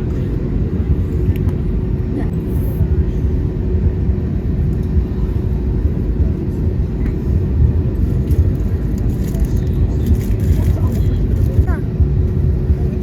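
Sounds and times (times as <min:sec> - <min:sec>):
aircraft cabin rumble: 0:00.0 - 0:13.0
faint constant hum: 0:00.0 - 0:13.0.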